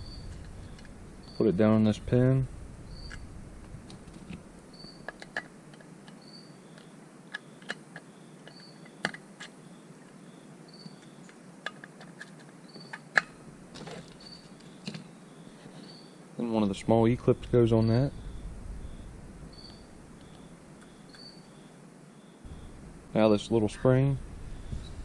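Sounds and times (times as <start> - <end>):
cricket chirping: 0.0 - 3.4, 4.3 - 16.4, 17.4 - 25.0.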